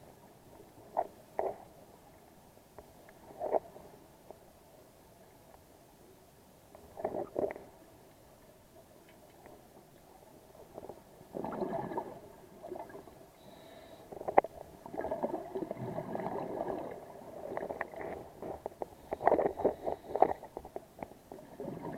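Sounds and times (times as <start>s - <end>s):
underwater bubbling and gurgling: 0.0s - 5.3s, 6.7s - 21.9s.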